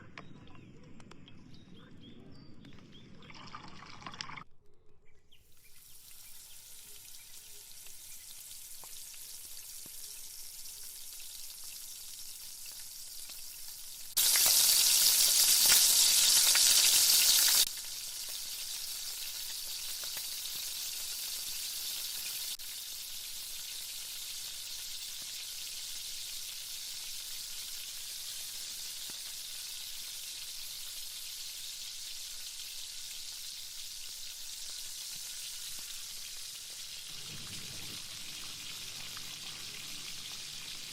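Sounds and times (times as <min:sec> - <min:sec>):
chicken deep-frying in oil: 0:05.2 - 0:40.9.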